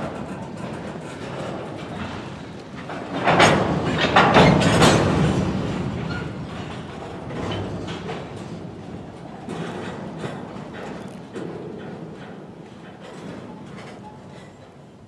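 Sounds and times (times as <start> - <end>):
freight train rattling and clicking: 0.0 - 15.0.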